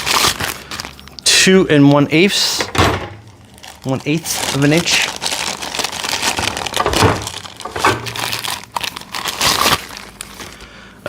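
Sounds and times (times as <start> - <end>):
plastic crinkling and rustling: 0.0 - 1.2, 2.6 - 10.7.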